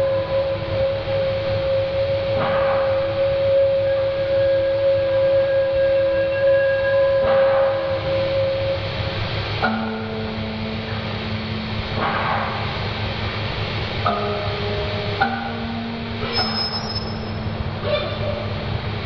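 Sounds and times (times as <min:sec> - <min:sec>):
dark ambient drone music: 0:00.0 - 0:19.0.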